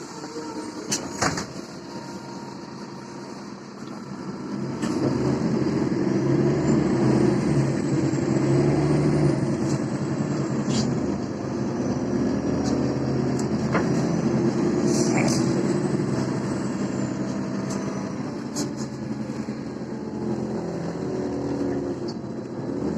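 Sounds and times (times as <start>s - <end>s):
bus engine running: 0.0s - 22.9s.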